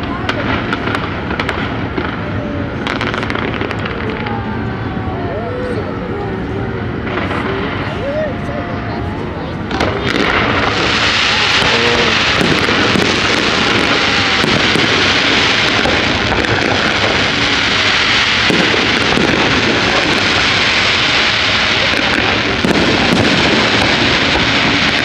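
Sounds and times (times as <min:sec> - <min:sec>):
fireworks bursting and crackling: 0:00.0 - 0:25.0
low rumble: 0:00.0 - 0:25.0.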